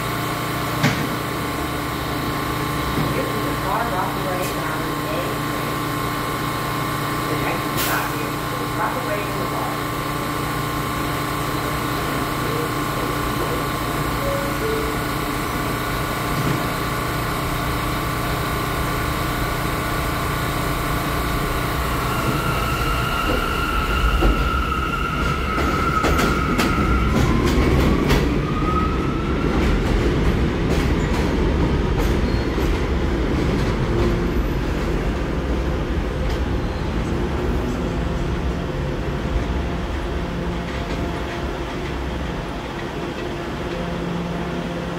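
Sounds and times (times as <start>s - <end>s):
rumble of wheels on track: 0.0s - 44.9s.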